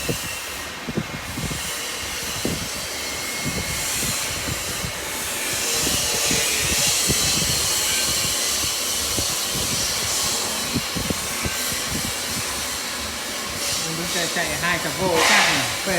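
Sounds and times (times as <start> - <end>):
saw cutting stone: 0.0 - 15.9.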